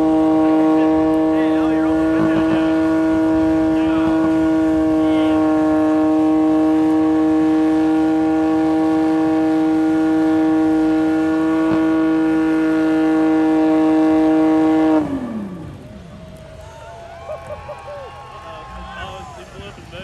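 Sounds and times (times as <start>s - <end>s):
car engine at high revs: 0.0s - 16.4s.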